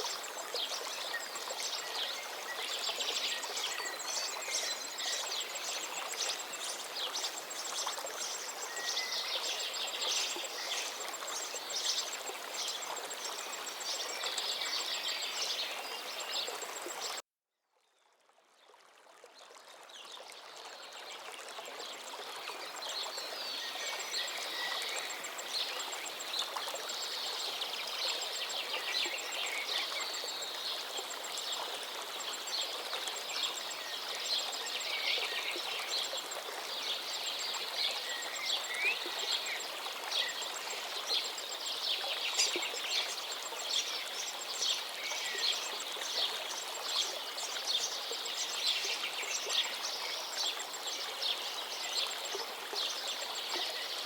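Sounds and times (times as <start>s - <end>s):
river flowing: 0.0s - 17.2s, 18.4s - 54.0s.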